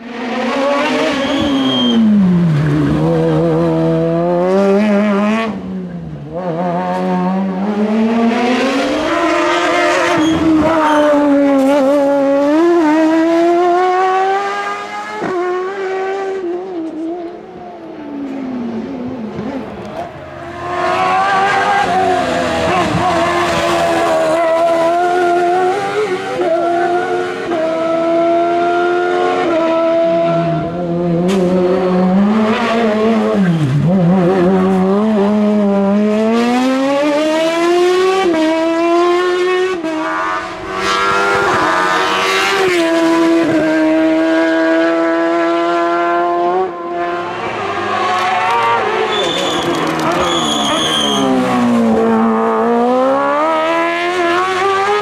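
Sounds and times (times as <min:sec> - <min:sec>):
race car engine at full throttle: 0:00.0 - 0:55.0.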